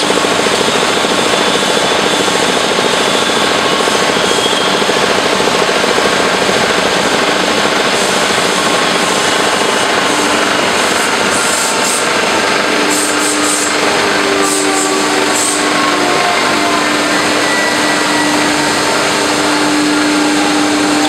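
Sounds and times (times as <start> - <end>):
loud steady machine din: 0.0 - 21.0.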